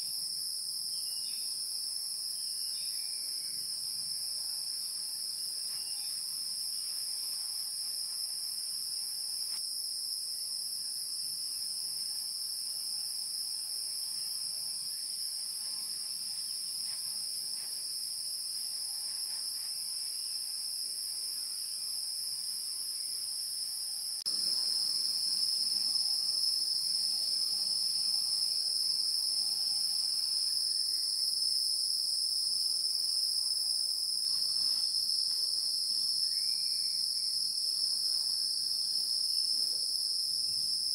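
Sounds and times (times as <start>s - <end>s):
insects trilling: 0.7s - 9.6s, 10.3s - 40.8s.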